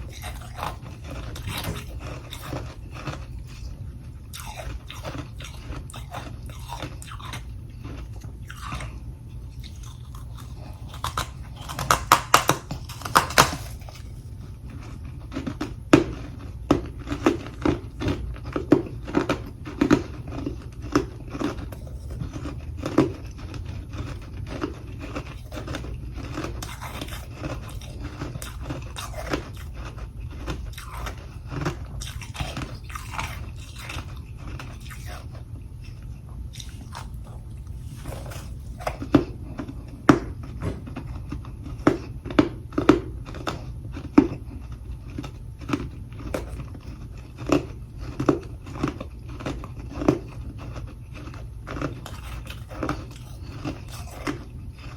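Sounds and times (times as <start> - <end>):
crunchy frost chewing: 0.0 - 54.9.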